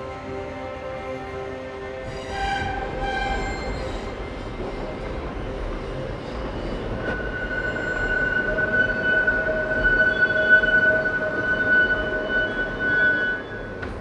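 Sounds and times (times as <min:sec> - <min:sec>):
subway train rattling rumble: 0:00.0 - 0:14.0.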